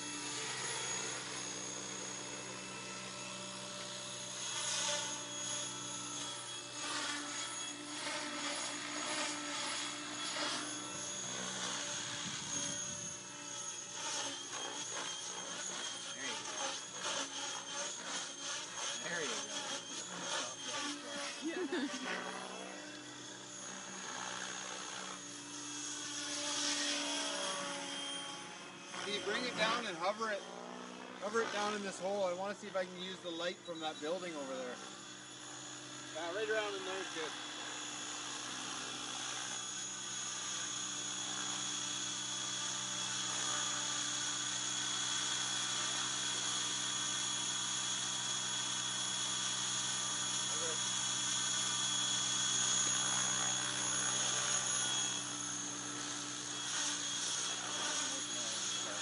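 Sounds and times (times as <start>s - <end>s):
drone rotors whining: 0.0s - 59.0s.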